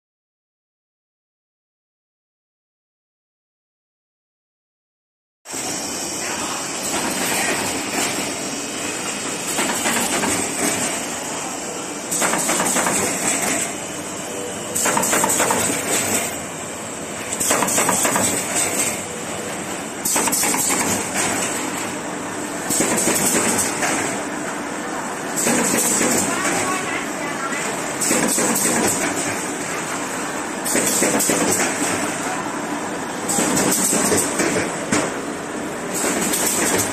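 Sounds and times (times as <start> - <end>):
machine clatter and hiss: 5.5 - 36.9.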